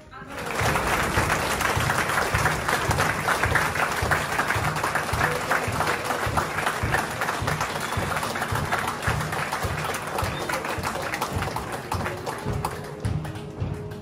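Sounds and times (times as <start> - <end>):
crowd applauding: 0.3 - 14.0
bass drum beating: 0.4 - 14.0
military band playing a march: 0.4 - 14.0.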